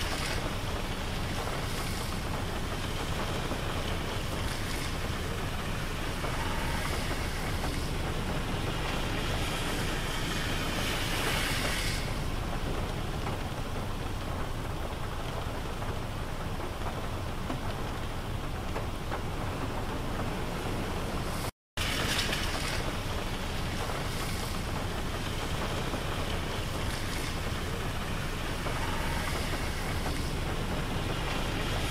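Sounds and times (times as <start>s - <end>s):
rain: 0.0s - 31.9s.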